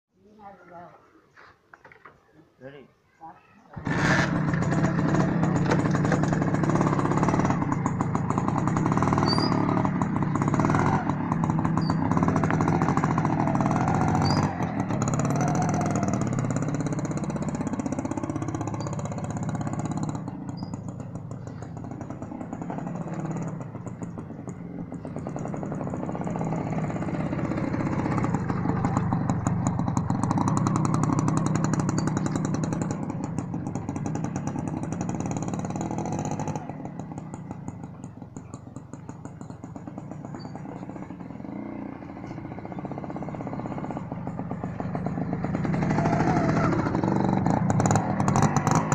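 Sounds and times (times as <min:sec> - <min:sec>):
motorcycle engine revving: 0:03.7 - 0:48.9.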